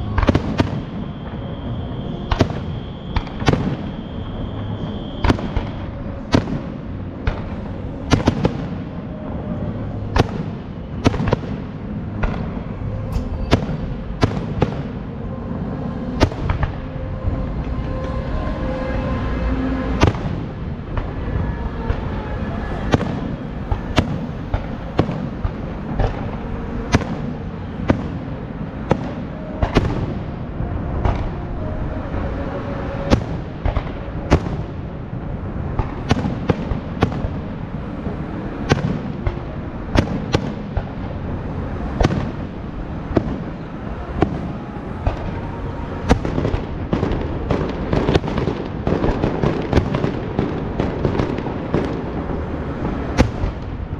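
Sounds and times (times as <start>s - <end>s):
fireworks bangs: 0.0s - 31.4s, 33.0s - 35.0s, 35.6s - 53.9s
low rumble: 5.6s - 53.9s.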